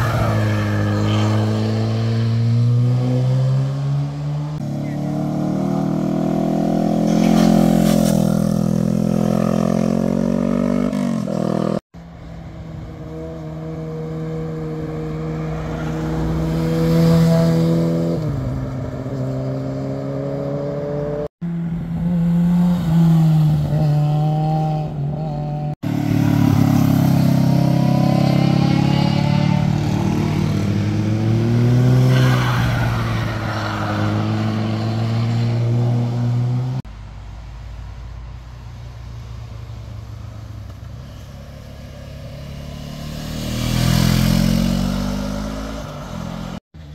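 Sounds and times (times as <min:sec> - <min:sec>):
motorcycles passing: 0:00.0 - 0:36.8, 0:39.2 - 0:46.9.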